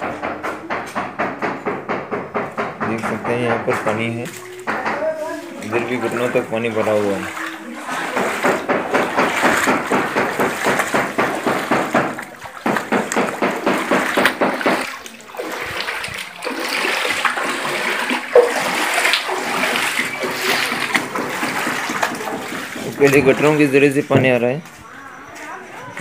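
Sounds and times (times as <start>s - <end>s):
wading through water splashing: 3.7s - 26.0s.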